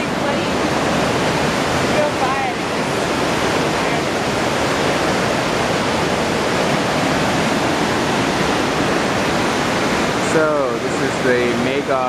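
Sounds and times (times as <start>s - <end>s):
river rushing roar: 0.0s - 12.0s.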